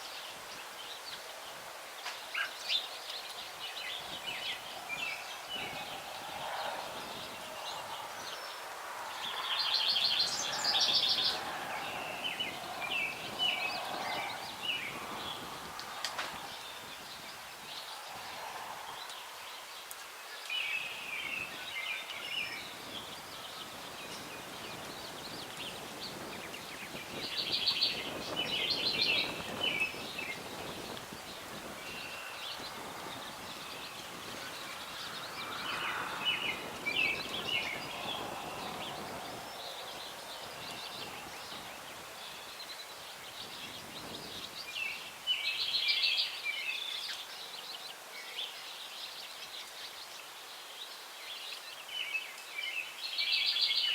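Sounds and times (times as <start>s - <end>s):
breeze through branches: 0.0s - 53.9s
songbirds chattering: 0.0s - 53.9s.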